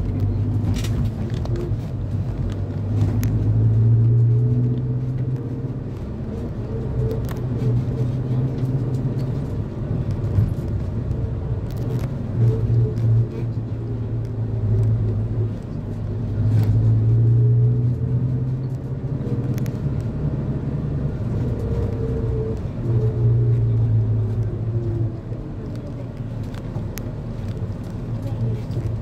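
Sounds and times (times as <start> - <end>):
road noise: 0.0 - 29.0
vehicle engine running: 0.0 - 29.0.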